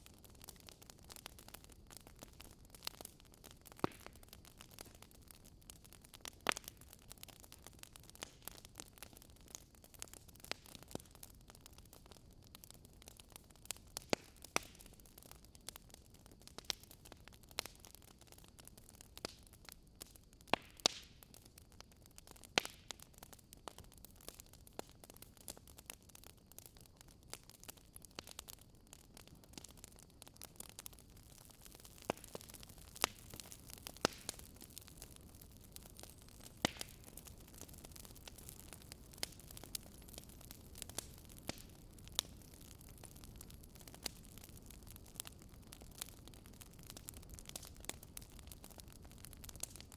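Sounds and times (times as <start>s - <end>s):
campfire crackling and popping: 0.0s - 49.9s
faint steady hiss: 0.0s - 49.9s.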